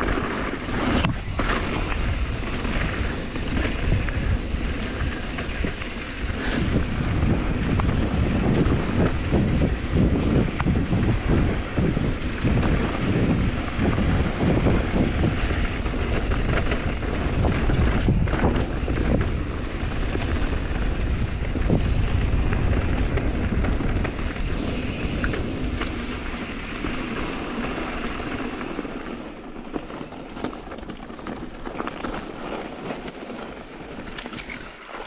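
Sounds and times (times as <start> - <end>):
rumbling tyre noise: 0.0 - 35.0
wind buffeting microphone: 0.0 - 35.0.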